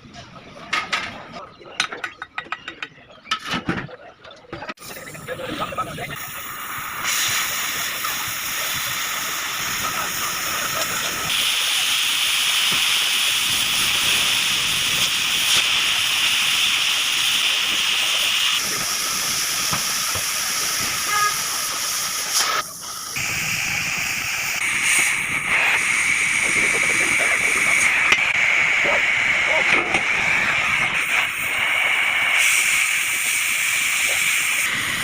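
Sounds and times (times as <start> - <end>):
gas cutting torch hissing: 4.8 - 35.0.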